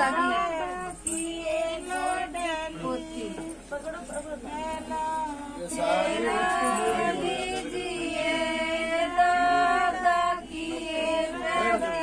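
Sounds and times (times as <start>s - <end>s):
voices singing a chant: 0.0s - 3.6s, 4.4s - 12.0s.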